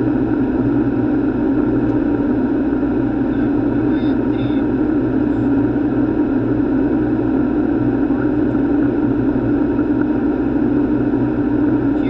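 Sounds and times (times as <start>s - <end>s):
airflow and engine rush: 0.0s - 12.0s.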